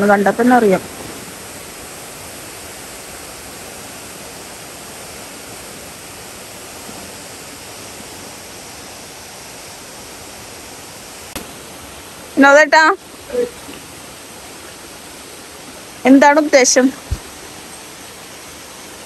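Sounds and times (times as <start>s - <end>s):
stream running over rocks: 0.0s - 19.0s
waterfall rushing: 0.0s - 19.0s.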